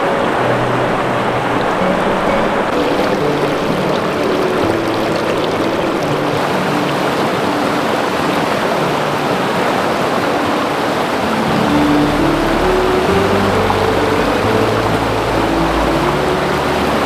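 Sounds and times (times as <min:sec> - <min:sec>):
soft low background music: 0:00.0 - 0:17.0
stream rushing over rocks: 0:00.0 - 0:17.0.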